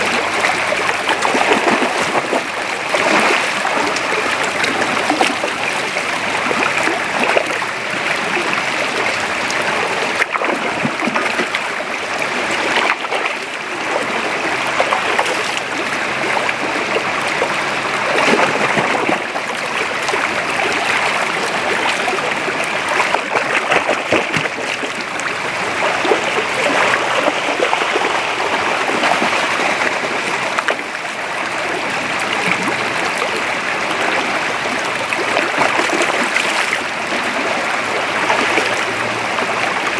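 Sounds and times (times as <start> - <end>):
creek water gurgling: 0.0 - 39.9
water splashes: 0.0 - 39.9.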